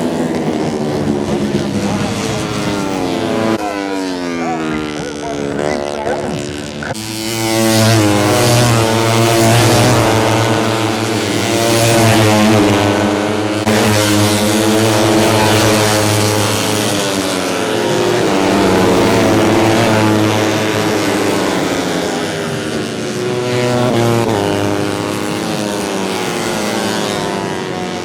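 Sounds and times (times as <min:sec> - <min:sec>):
motorcycle engines at high revs: 0:00.0 - 0:28.0.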